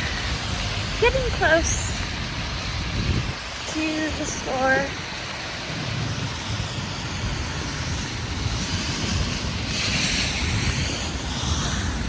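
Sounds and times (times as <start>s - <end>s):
rain on wet street: 0.0s - 12.0s
tyre hiss on wet road: 0.0s - 12.0s.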